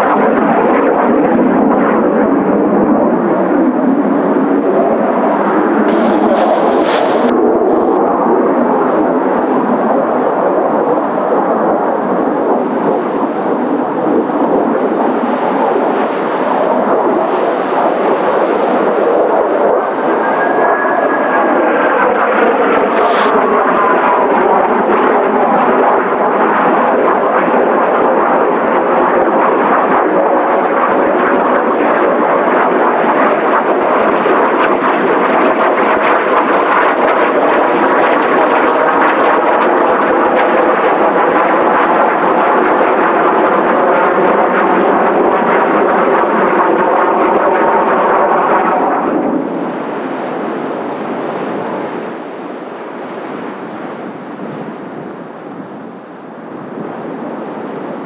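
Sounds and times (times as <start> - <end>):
jet engine whine: 0.0 - 58.0
jet noise: 0.0 - 58.0.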